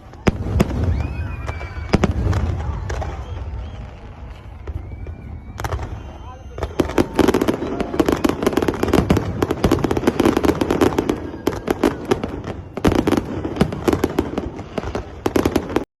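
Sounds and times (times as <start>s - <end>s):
fireworks crackling and banging: 0.0s - 15.9s.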